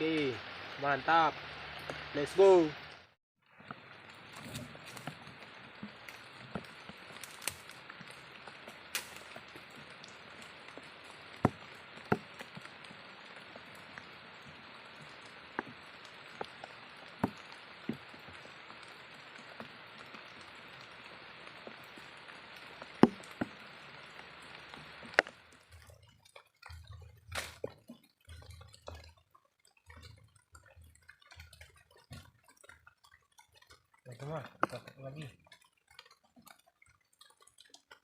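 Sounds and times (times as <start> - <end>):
raindrops landing close: 0.0 - 38.0
steady rain falling: 0.0 - 38.0.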